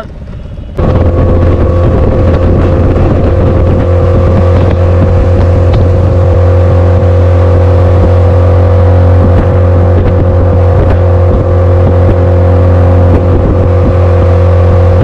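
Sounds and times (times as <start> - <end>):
outboard motor running: 0.8 - 15.0.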